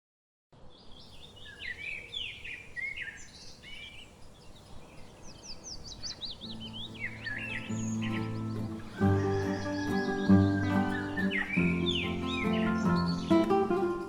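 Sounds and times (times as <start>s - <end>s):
faint background hiss: 0.6s - 14.0s
songbirds chirping and singing: 0.7s - 14.0s.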